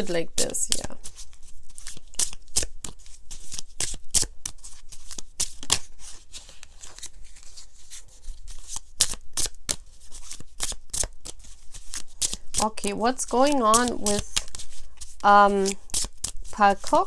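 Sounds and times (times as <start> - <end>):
cards being shuffled: 0.0 - 17.0.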